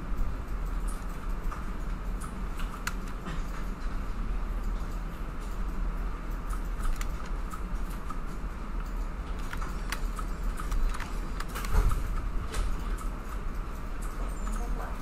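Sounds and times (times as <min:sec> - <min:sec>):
steady low hum: 0:00.0 - 0:15.0
computer mouse and keyboard clicks: 0:00.6 - 0:04.0, 0:04.6 - 0:15.0.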